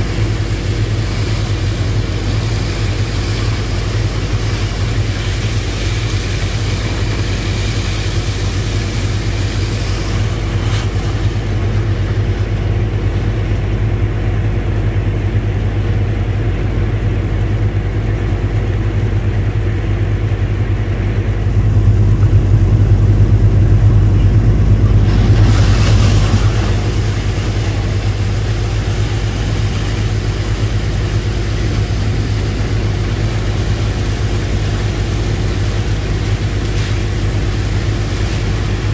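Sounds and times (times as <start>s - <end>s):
pump engine humming: 0.0s - 38.9s.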